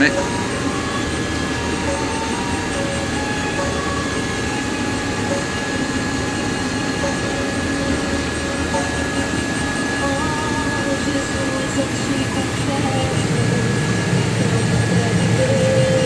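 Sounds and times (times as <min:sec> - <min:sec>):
combine harvester drone: 0:00.0 - 0:16.0
high mechanical whine: 0:00.0 - 0:16.0.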